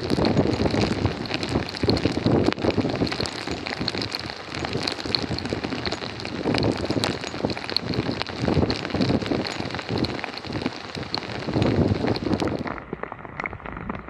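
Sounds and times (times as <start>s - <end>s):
water crackling on flooded road: 0.0s - 14.0s
wind buffeting microphone: 0.0s - 14.0s.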